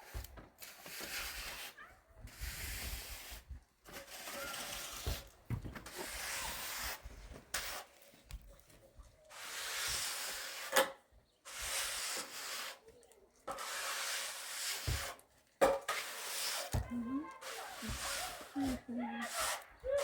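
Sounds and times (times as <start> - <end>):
tool scraping hard surface: 0.0 - 8.0, 9.3 - 12.8, 13.4 - 19.7.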